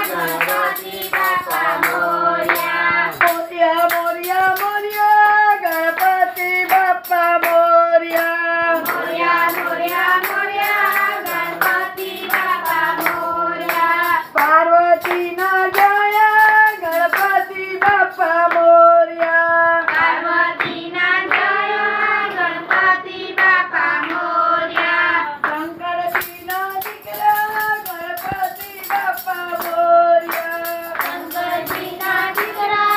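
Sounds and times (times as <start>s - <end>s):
children and women singing: 0.0s - 32.9s
rhythmic hand clapping: 0.0s - 32.9s.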